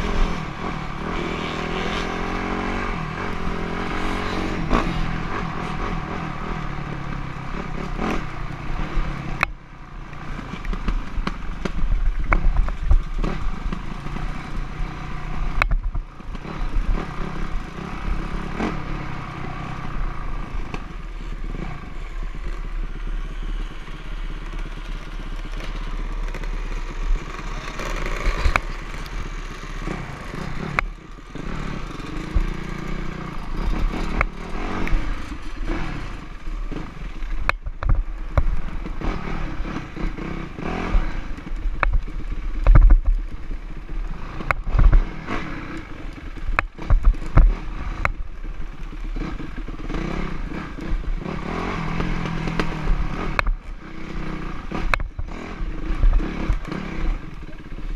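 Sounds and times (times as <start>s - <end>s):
dirt bike engine revving: 0.0s - 9.4s, 10.2s - 37.5s, 38.1s - 57.9s.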